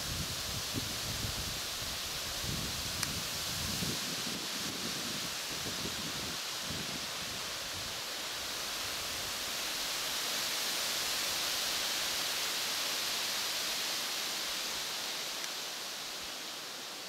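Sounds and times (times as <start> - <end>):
wind rustling foliage: 0.0 - 17.0.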